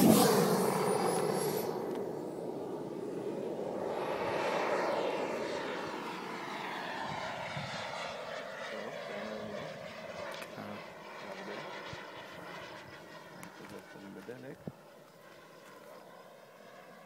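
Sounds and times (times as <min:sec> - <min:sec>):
model jet flying past: 0:00.0 - 0:17.0.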